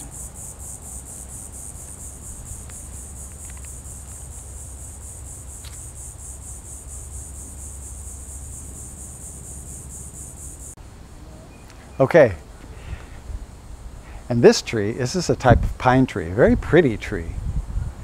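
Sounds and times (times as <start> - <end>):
insects chirping: 0.0 - 15.6.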